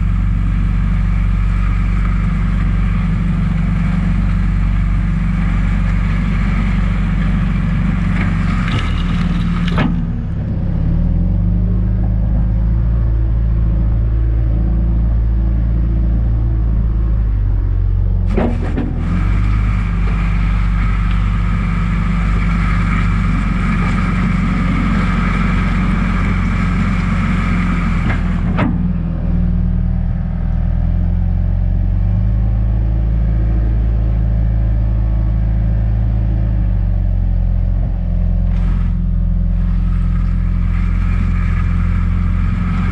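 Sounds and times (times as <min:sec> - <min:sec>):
backhoe diesel engine running: 0:00.0 - 0:42.9.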